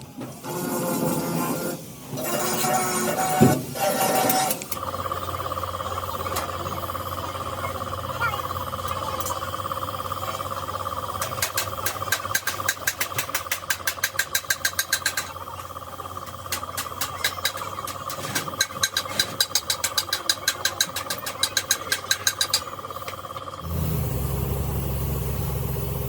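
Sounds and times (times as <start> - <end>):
steady machine hum: 0.4 - 26.0
rapid mechanical clicking: 2.2 - 25.9.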